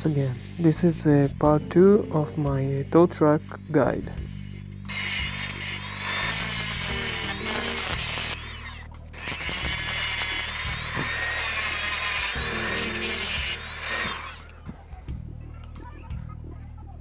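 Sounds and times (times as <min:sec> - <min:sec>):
rotary tool grinding whine: 0:00.0 - 0:14.7
quiet background music: 0:00.0 - 0:17.0.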